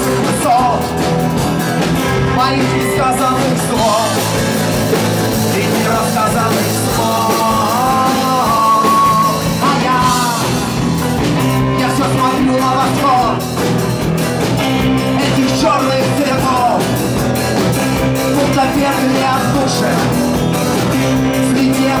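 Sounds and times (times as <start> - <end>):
person singing: 0.0 - 1.0, 2.0 - 13.6, 15.0 - 17.0, 18.1 - 22.0
rock band playing: 0.0 - 22.0.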